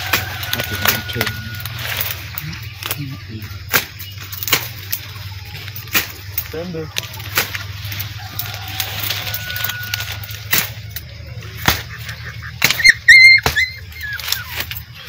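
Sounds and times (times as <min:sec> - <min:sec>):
twigs and leaves crackling underfoot: 0:00.0 - 0:15.0.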